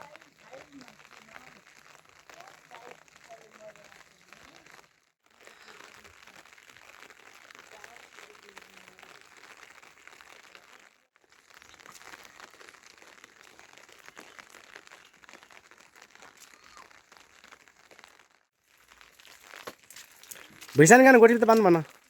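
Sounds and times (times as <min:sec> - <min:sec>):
heavy rain pattering: 0:00.0 - 0:22.0.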